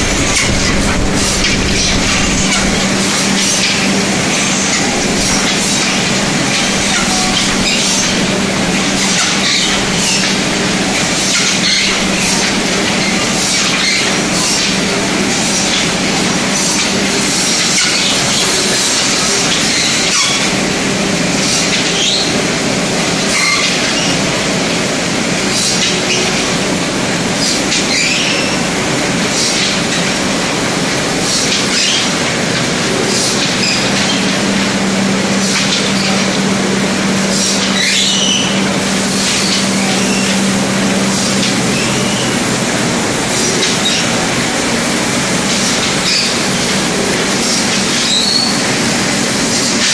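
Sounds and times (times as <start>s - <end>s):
machinery humming and rushing: 0.0s - 49.9s.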